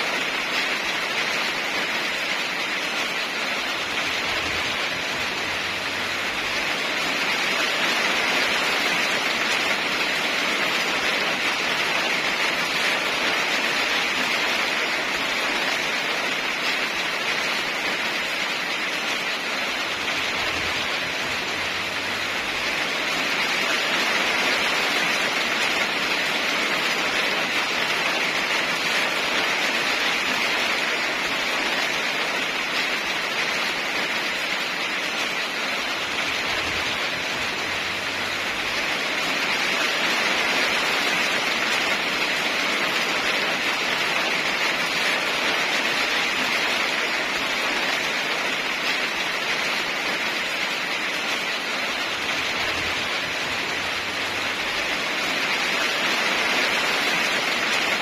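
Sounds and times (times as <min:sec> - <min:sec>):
heavy rainfall: 0:00.0 - 0:58.0.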